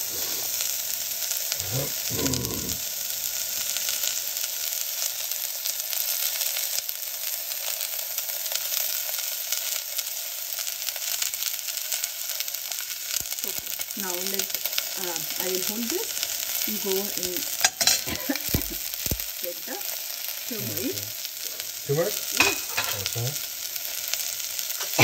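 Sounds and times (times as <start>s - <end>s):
onion and garlic sizzling in a pot: 0.0s - 25.0s.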